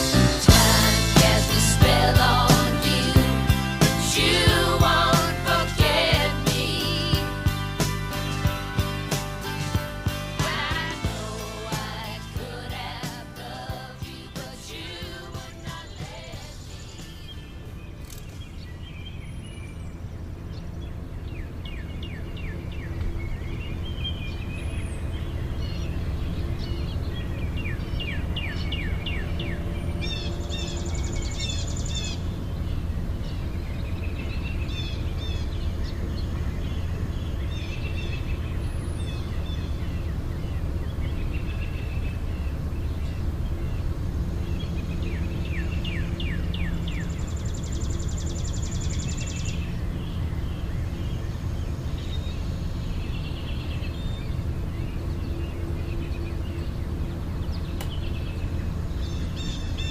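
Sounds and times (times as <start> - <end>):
low background rumble: 0.0 - 59.9
birds chirping and trilling: 0.6 - 59.9.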